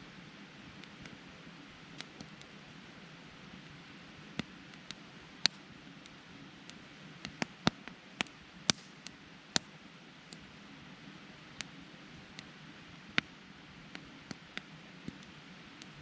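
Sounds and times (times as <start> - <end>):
campfire hiss: 0.0 - 16.0
campfire crackles and pops: 0.6 - 16.0.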